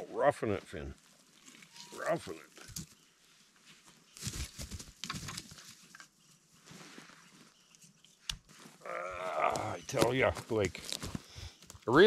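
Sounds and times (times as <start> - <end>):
rustling and scuffing on forest floor: 0.4 - 12.0.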